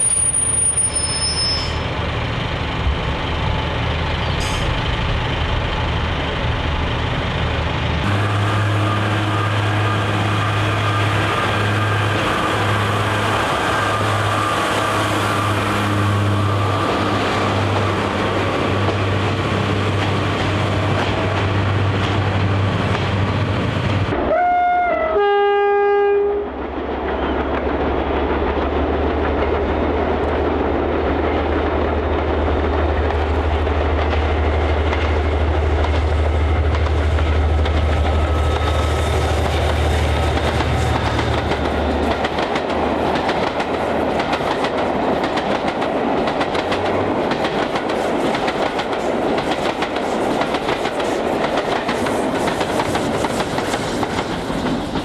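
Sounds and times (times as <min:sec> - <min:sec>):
train wheels clattering over track: 0:00.0 - 0:24.2, 0:26.5 - 0:55.0
diesel locomotive engine drone: 0:00.0 - 0:55.0.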